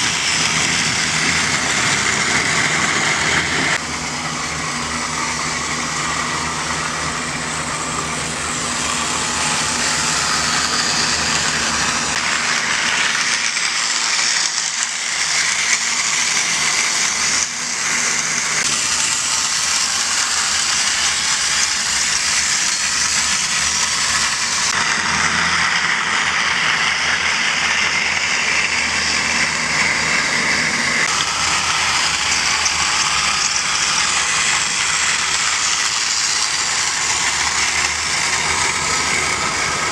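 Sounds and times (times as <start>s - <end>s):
toy train motor whir: 0.0s - 39.9s.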